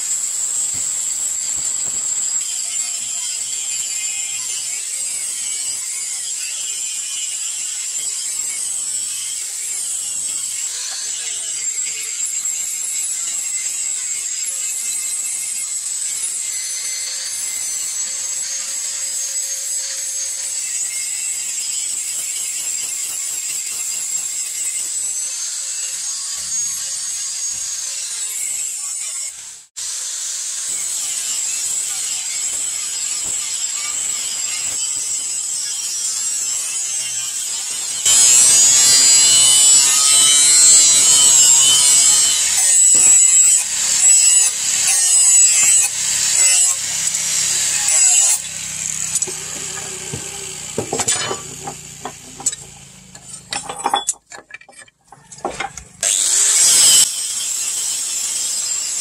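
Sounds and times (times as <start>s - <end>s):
angle grinder grinding steel: 0.0s - 59.0s.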